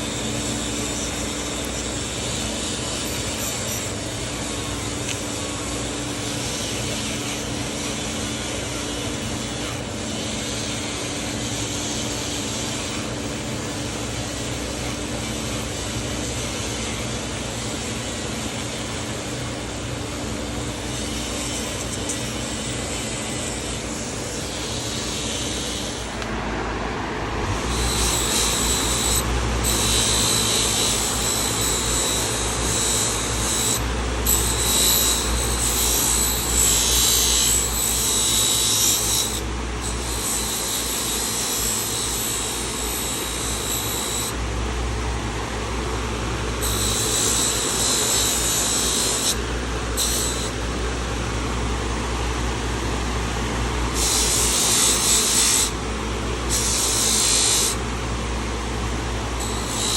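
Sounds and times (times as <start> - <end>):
high-pitched scraping on metal blade: 0.0 - 26.3, 27.5 - 44.4, 46.6 - 50.7, 53.9 - 55.8, 56.5 - 57.8, 59.4 - 59.9
rotary tool motor hum: 0.0 - 26.4, 27.3 - 59.9.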